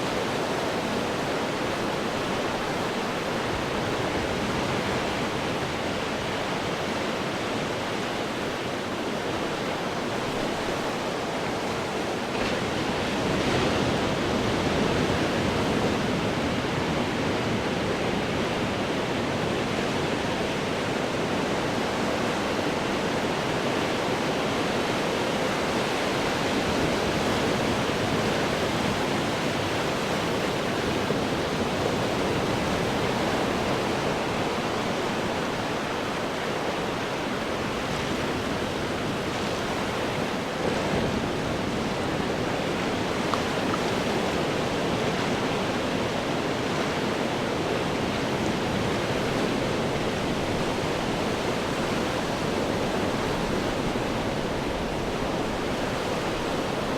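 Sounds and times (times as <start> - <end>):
ocean surf breaking on rocks: 0.0 - 56.9.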